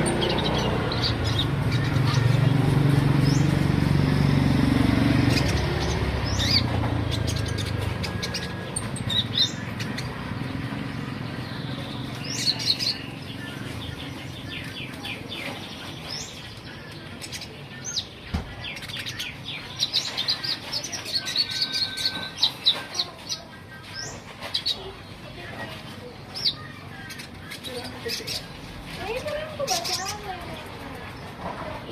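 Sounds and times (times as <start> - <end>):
bird chirping: 0.0 - 28.6.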